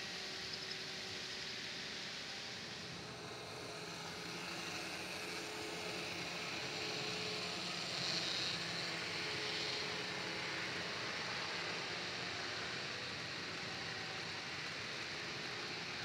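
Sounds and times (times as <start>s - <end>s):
model train whirring: 0.0s - 16.0s.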